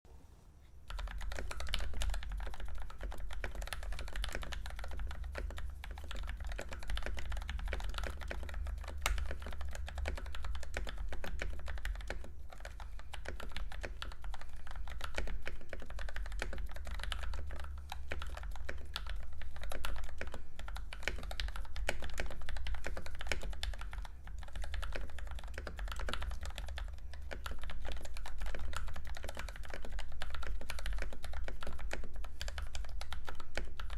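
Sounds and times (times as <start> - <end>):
steady low hum: 0.1 - 33.9
mechanical keyboard typing: 0.9 - 33.9.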